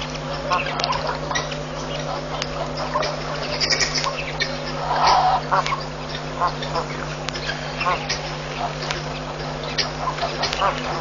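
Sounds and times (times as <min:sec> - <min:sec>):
birds calling: 0:00.0 - 0:11.0
steady low hum: 0:00.0 - 0:11.0.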